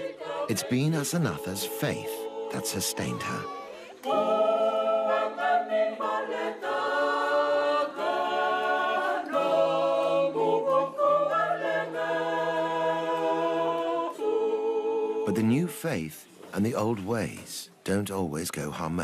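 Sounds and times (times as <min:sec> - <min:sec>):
choir singing a hymn: 0:00.0 - 0:15.8.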